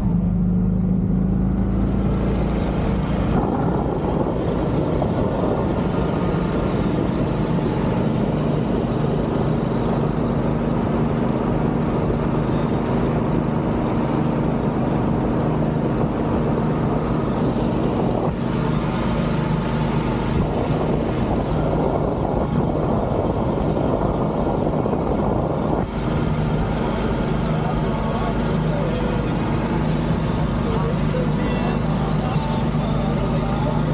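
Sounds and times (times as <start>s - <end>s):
motor hum: 0.0s - 33.9s
wind and tyres rumbling: 0.0s - 33.9s
thin high whine: 1.3s - 33.9s.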